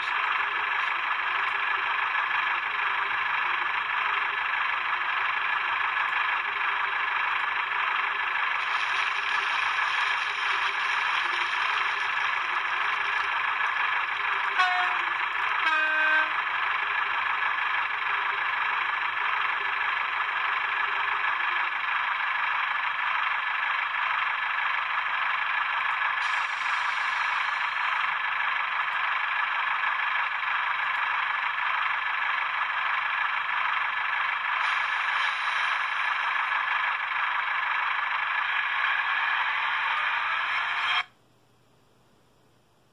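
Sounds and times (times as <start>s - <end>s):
thin diesel engine sound from speaker: 0.0s - 41.1s.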